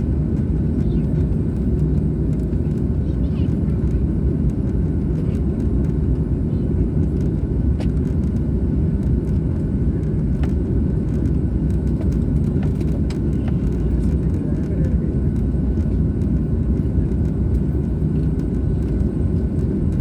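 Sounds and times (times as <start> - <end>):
jet engines and airflow rumble: 0.0 - 20.0.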